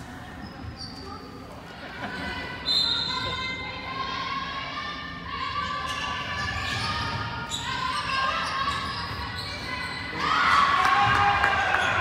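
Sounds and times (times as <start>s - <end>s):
voices of players and spectators: 0.0s - 12.0s.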